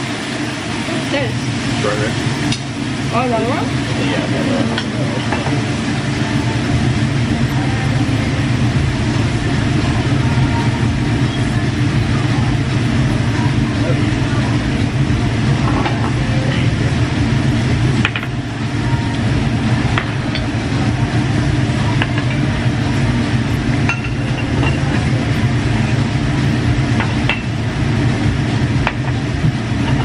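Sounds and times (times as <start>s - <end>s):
ventilation rumble: 0.0s - 30.0s.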